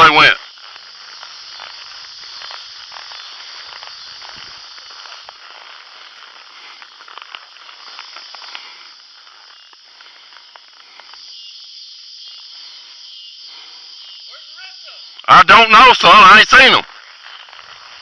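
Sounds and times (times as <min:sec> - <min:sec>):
high-pitched insect chorus: 0:00.0 - 0:18.0
twigs and leaves crackling: 0:00.0 - 0:18.0.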